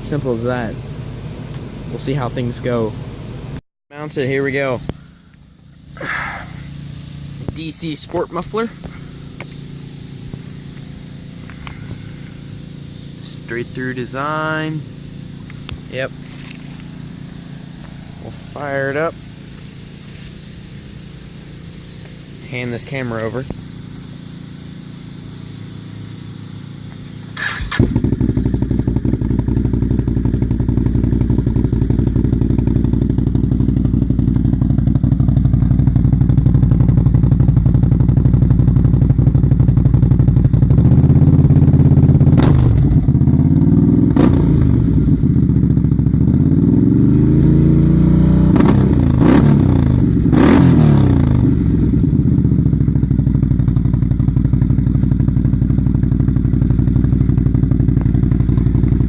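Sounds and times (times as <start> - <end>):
atv engine starting and idling: 4.0 - 59.0
engine revving with cracks: 4.5 - 59.0.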